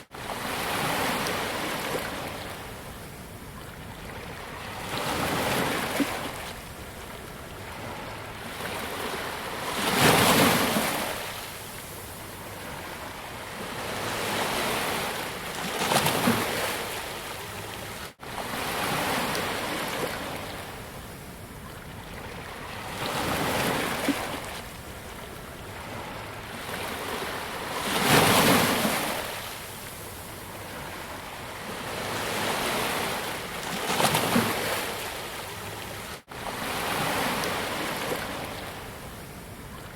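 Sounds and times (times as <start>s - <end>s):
sea waves breaking on beach: 4.1s - 21.4s, 22.2s - 39.7s.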